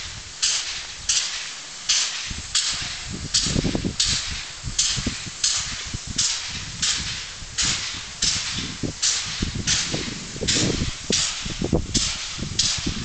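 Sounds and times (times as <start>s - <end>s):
steam locomotive exhaust chuffing: 0.0s - 13.0s.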